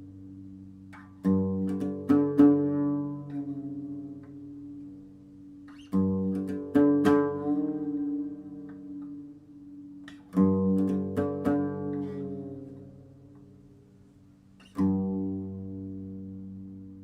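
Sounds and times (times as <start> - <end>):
plucked guitar music: 0.0 - 14.0, 14.6 - 17.0.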